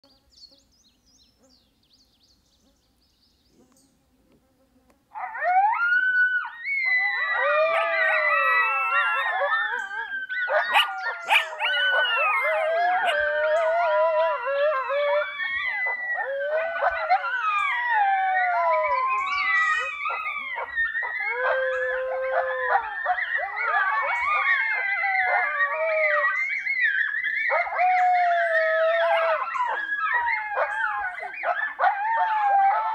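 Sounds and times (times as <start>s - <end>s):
coyotes howling and yipping: 5.1s - 32.9s.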